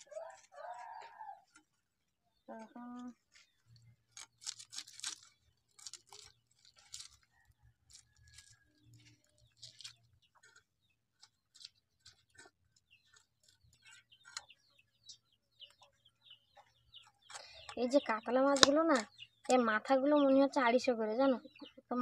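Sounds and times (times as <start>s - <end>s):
scraping fish scales on blade: 0.0s - 1.9s, 2.5s - 15.9s, 16.6s - 19.6s.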